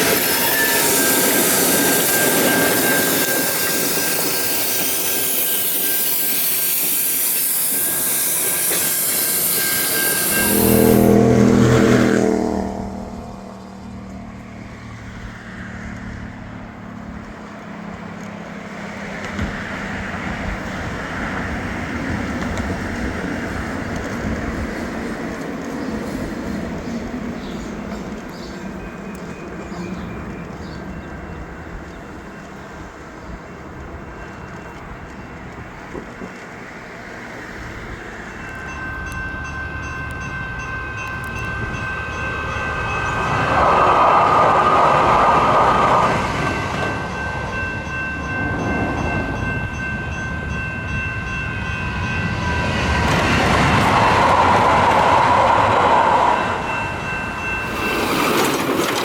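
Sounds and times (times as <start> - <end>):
light rail train passing: 0.0 - 59.0.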